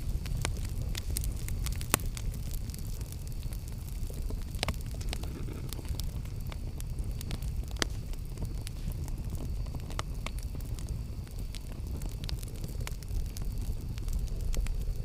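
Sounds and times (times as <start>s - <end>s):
campfire burning with low rumble: 0.0s - 15.0s
fire crackling and popping: 0.0s - 15.0s.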